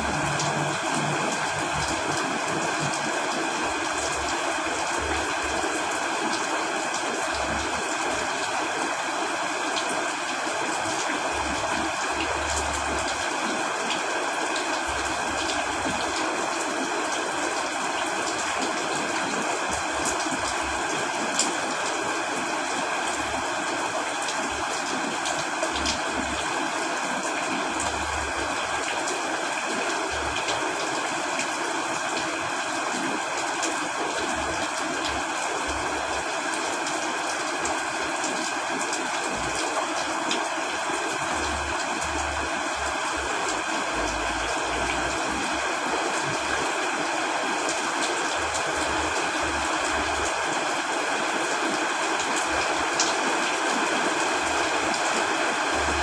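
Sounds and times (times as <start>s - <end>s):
running stream water: 0.0s - 56.0s
steady rain: 0.0s - 56.0s.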